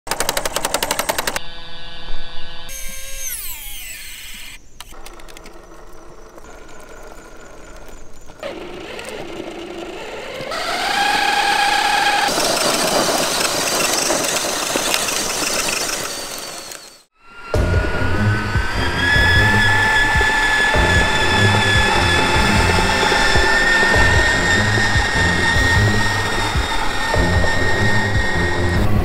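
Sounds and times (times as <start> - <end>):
electric motor and gearbox whine: 0.1 - 29.0
trucks driving over gravel: 5.0 - 17.0, 17.8 - 29.0.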